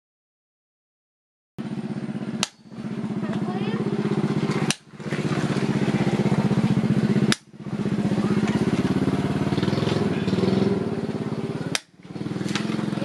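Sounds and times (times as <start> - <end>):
small engine running: 1.6 - 13.0.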